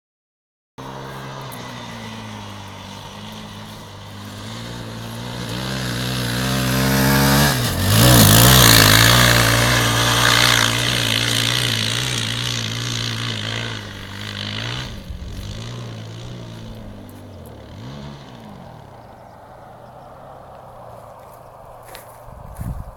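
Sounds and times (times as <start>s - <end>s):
dirt bike engine running: 0.8s - 22.9s.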